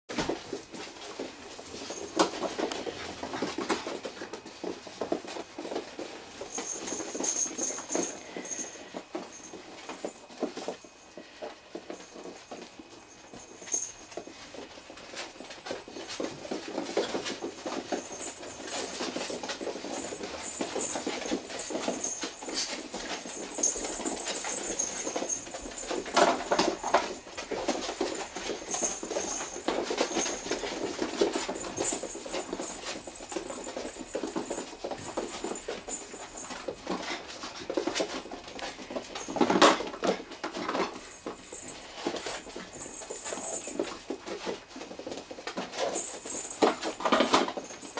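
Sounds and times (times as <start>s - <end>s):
paws pattering on floor: 0.1s - 47.9s.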